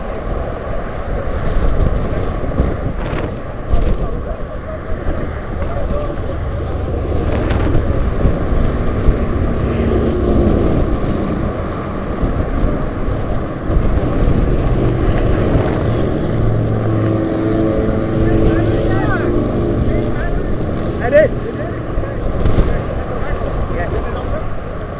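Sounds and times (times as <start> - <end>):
car traffic passing: 0.0 - 24.9
wind rumble on microphone: 0.0 - 24.9.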